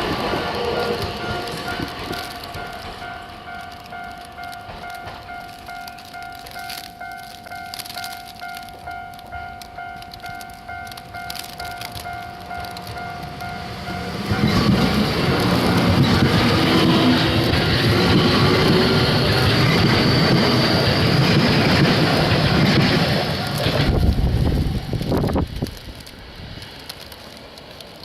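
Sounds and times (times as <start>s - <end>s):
train wheel and running noise: 0.0s - 28.0s
crossing alarm bell: 0.6s - 23.6s.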